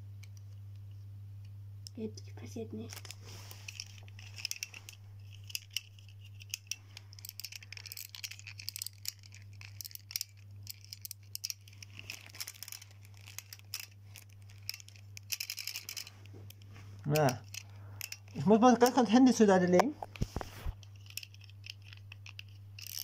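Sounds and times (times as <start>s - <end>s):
plastic toy clicks and rattles: 2.8s - 19.9s, 20.8s - 23.0s.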